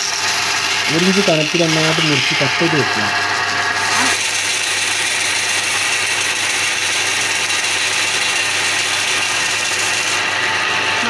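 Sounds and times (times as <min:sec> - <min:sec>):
power saw cutting wood: 0:00.0 - 0:11.0.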